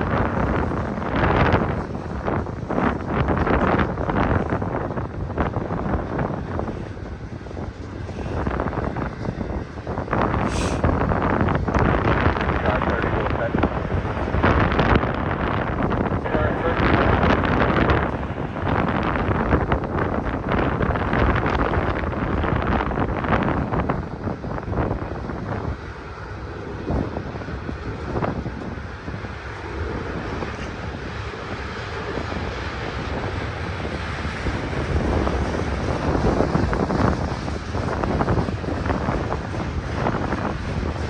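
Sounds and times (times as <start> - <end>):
gusty wind buffeting microphone: 0.0 - 41.0
low rumbling noise: 0.0 - 41.0.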